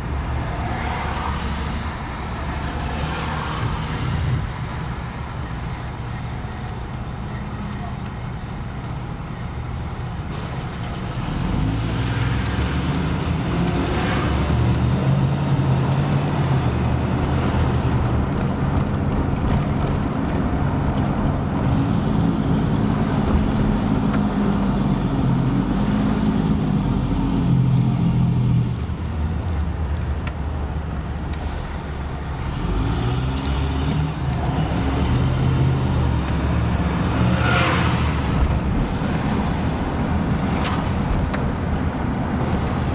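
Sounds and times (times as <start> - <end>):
road noise: 0.0 - 42.9
vehicle engine under load: 0.0 - 42.9.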